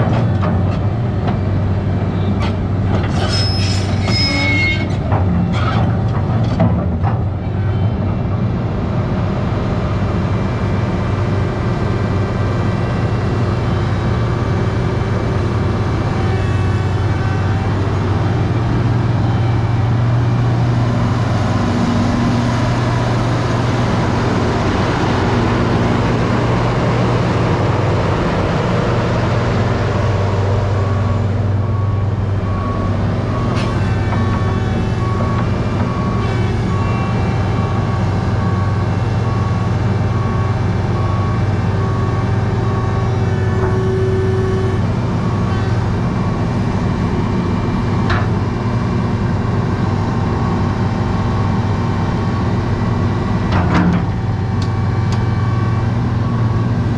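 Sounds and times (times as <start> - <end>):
excavator engine hum: 0.0 - 56.9.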